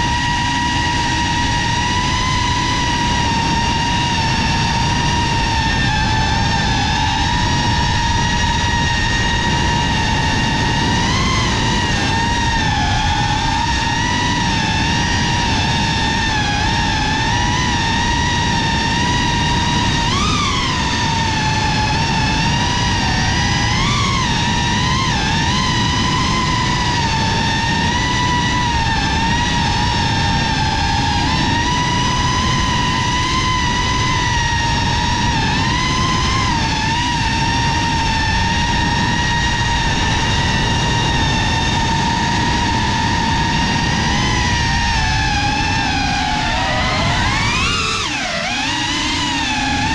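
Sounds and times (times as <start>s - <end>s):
drone propellers whining: 0.0s - 49.9s
low rushing noise: 0.0s - 49.9s.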